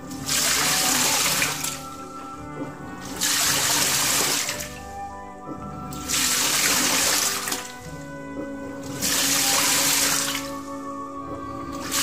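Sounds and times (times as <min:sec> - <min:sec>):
washing machine water sloshing: 0:00.0 - 0:12.0.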